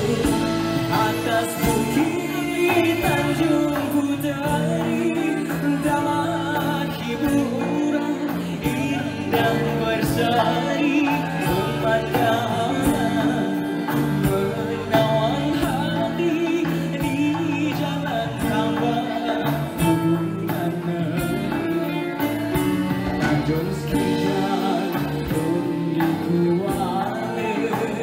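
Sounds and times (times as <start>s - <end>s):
live band playing: 0.0s - 28.0s
man singing: 0.0s - 28.0s.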